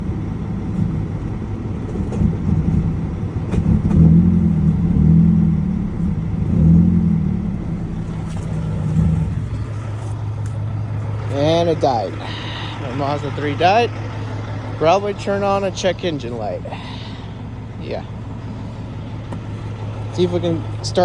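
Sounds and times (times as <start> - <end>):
car engine idling roughly: 0.0 - 21.0.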